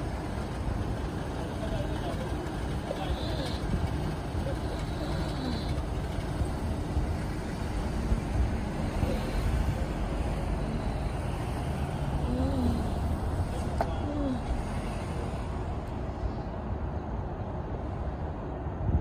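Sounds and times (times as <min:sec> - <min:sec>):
car engines and tyres: 0:00.0 - 0:19.0
vehicles pulling away and passing: 0:00.0 - 0:19.0.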